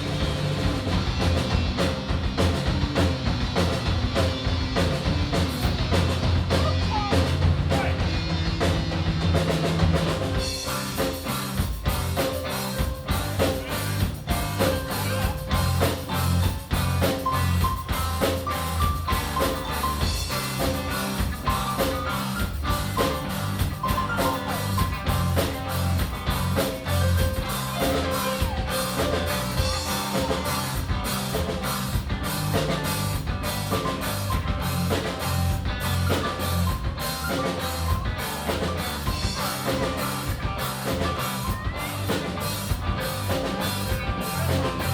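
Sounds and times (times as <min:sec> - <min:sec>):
drum kit beat: 0:00.0 - 0:44.9
rock band playing live: 0:00.0 - 0:44.9.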